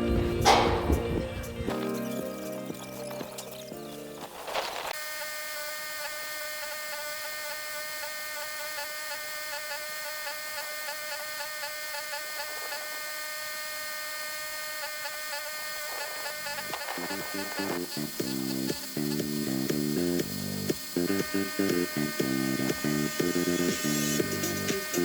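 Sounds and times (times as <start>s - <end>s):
small electric motor whining: 2.4s - 25.0s.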